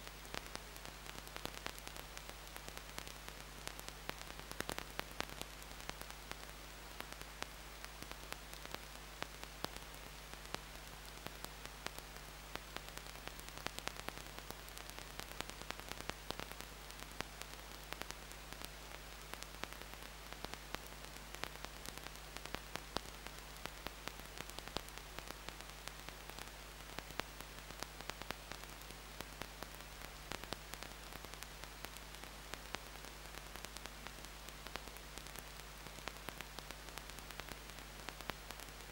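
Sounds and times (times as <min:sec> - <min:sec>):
faint crackling clicks: 0:00.0 - 0:38.9
low mains hum: 0:00.0 - 0:38.9
static hiss: 0:00.0 - 0:38.9.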